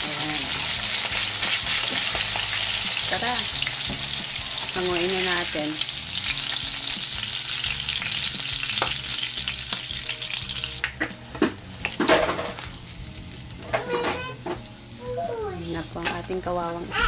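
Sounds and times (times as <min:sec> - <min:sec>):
fish sizzling in hot oil: 0:00.0 - 0:16.7.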